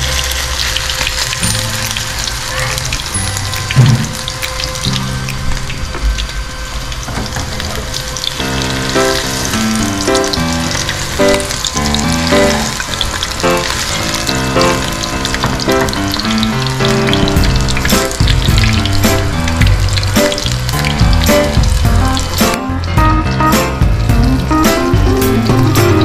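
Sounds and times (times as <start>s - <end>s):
background music with melody: 0.0s - 26.0s
batter sizzling in hot oil: 0.0s - 26.0s.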